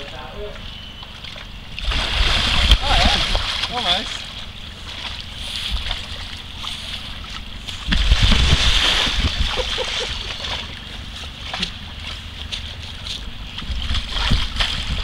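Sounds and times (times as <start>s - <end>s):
low rumble: 0.0s - 15.0s
water splashing and sloshing: 0.0s - 15.0s
rushing river water: 1.0s - 15.0s.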